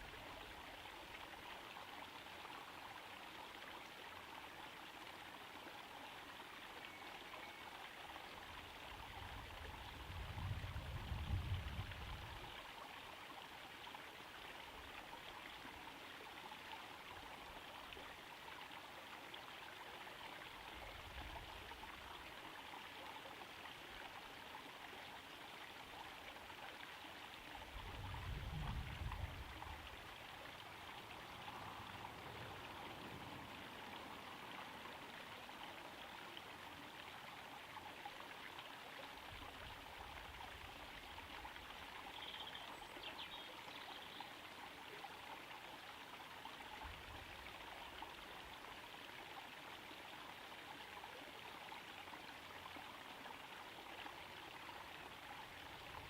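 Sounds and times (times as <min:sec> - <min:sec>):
waterfall trickling and splashing: 0:00.0 - 0:56.0.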